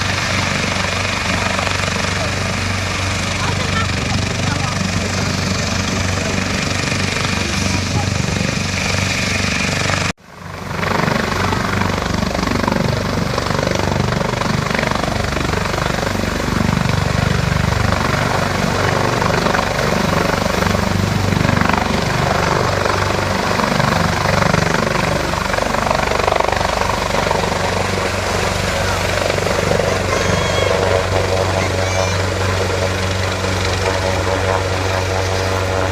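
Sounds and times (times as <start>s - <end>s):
helicopter engine and rotor: 0.0s - 35.9s.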